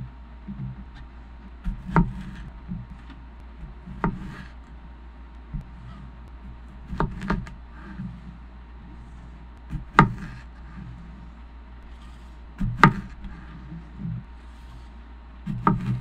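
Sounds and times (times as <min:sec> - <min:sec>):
knife chopping on cutting board: 0:00.5 - 0:04.7, 0:05.5 - 0:08.3, 0:09.0 - 0:11.1, 0:11.9 - 0:16.0.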